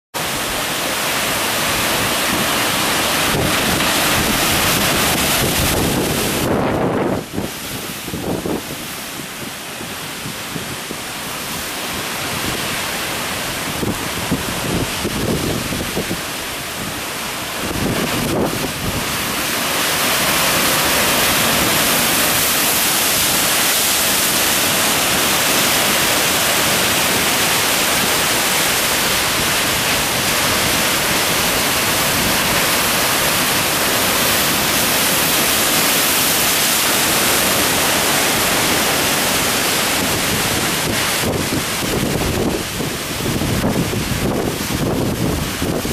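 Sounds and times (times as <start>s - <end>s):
heavy surf: 0.1s - 45.9s
strong wind buffeting microphone: 0.2s - 45.9s.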